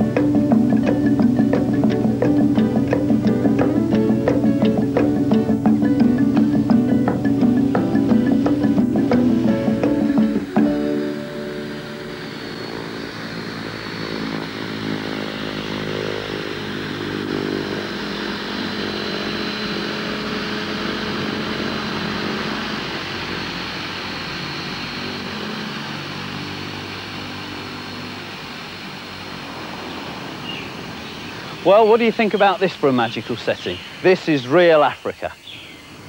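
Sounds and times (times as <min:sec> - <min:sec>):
propeller drone: 0:00.0 - 0:34.6
high turbine whine: 0:00.0 - 0:36.0.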